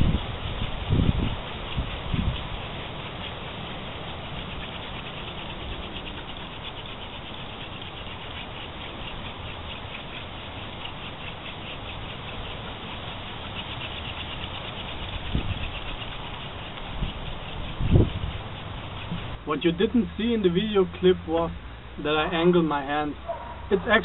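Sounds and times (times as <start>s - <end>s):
wooden spindle grinding on board: 0.0s - 21.2s
palms rubbing on wooden shaft: 0.0s - 24.0s.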